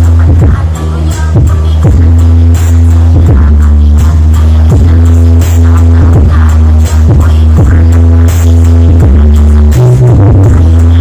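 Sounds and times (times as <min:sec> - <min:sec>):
bass hits dropping in pitch: 0:00.0 - 0:11.0
loud electronic dance music: 0:00.0 - 0:11.0.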